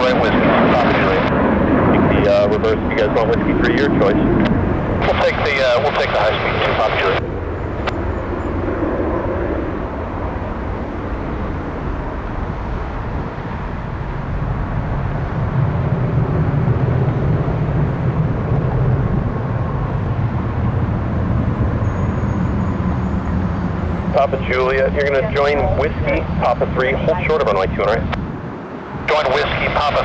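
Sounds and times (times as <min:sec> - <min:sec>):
faint steady whine: 0:00.0 - 0:28.0, 0:28.6 - 0:30.0
jet engines rumbling: 0:00.0 - 0:30.0.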